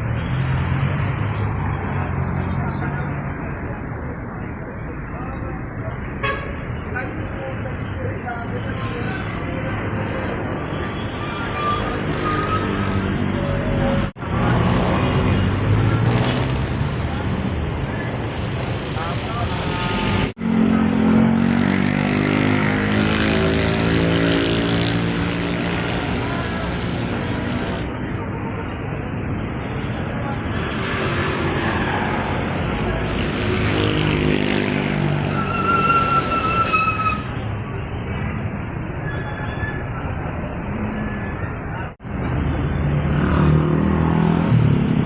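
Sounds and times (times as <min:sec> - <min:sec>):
road noise: 0:00.0 - 0:45.0.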